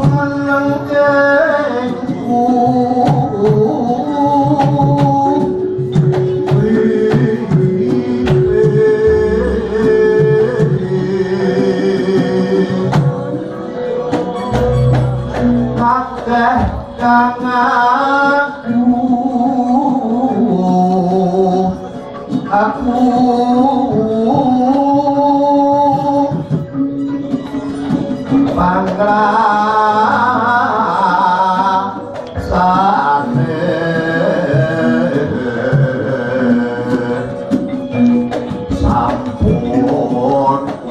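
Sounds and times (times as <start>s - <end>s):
bronze metallophones: 0.0s - 40.9s
low drum: 0.0s - 40.9s
person singing: 0.0s - 40.9s.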